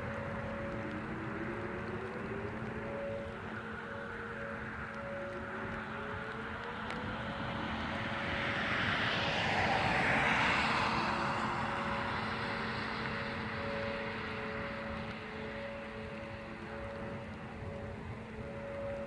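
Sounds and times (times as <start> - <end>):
aircraft passing overhead: 0.0 - 19.0.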